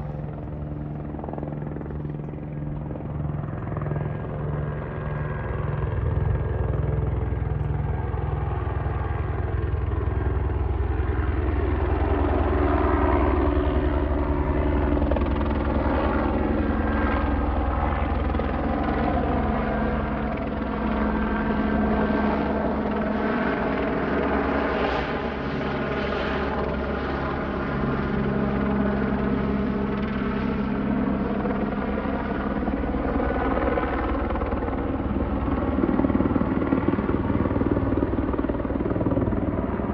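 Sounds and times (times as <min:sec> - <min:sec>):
helicopter flying over: 0:00.0 - 0:39.9.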